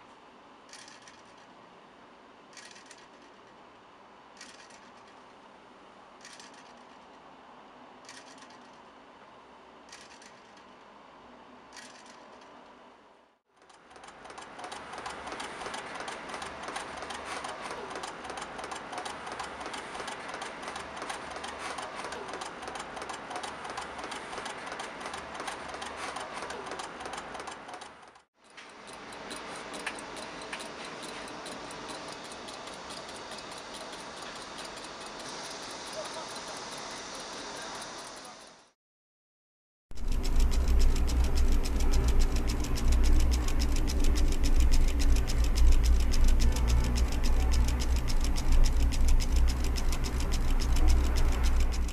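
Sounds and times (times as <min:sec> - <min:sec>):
fast clicking of small motor: 0:00.7 - 0:01.5, 0:02.5 - 0:03.6, 0:04.4 - 0:05.4, 0:06.2 - 0:07.2, 0:08.0 - 0:08.9, 0:09.8 - 0:10.8, 0:11.7 - 0:12.6, 0:13.6 - 0:38.7, 0:39.9 - 0:51.9.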